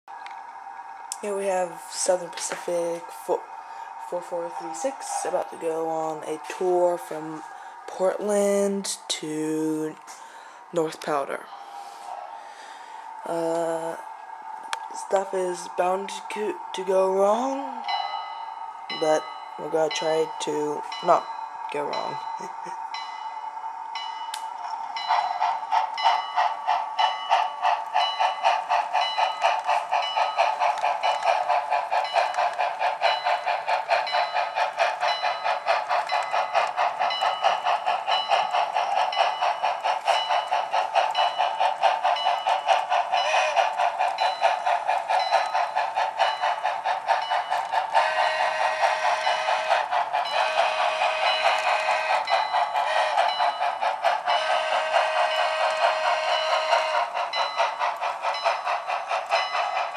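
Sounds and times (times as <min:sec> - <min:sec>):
model train clicking: 0:00.2 - 0:59.9.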